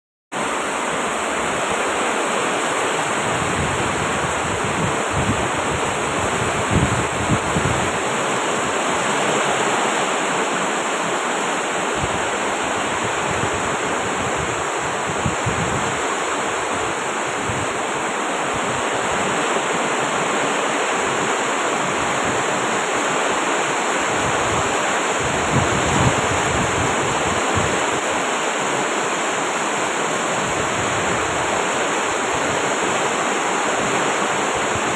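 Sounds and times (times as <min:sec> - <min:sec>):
heavy rain pouring: 0:00.4 - 0:34.9.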